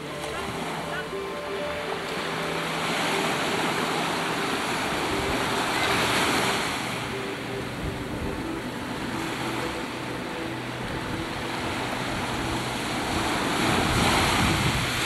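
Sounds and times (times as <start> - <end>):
boat engine humming: 0.0 - 15.0
choppy waves: 0.0 - 15.0
wind: 0.0 - 15.0.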